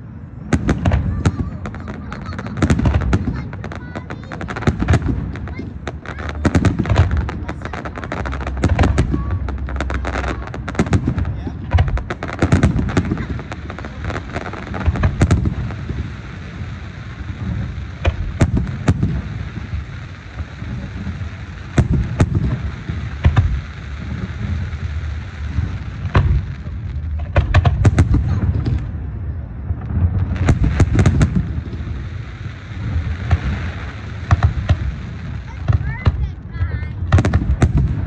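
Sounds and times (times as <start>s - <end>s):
fireworks bangs and crackling pops: 0.0s - 38.0s
low rumbling booms: 0.0s - 38.0s.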